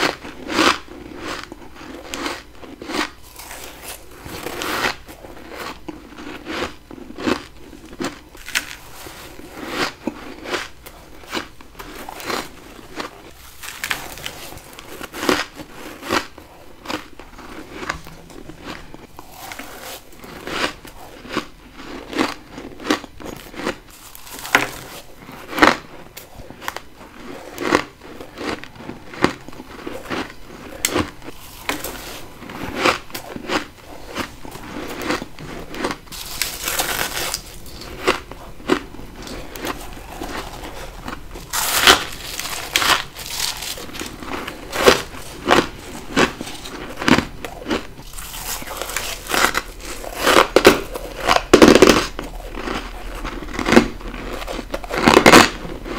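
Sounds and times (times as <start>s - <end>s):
biting into crunchy frost: 0.0s - 55.9s.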